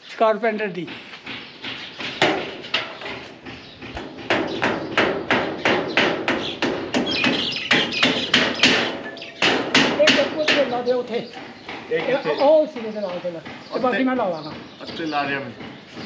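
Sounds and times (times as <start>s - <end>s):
hammering on wood: 0.3s - 16.0s.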